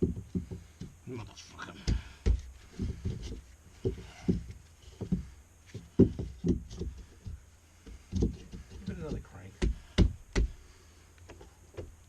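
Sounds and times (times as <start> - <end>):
dull thumps and knocks on wood: 0.0 - 1.0, 1.6 - 10.6, 11.3 - 12.0.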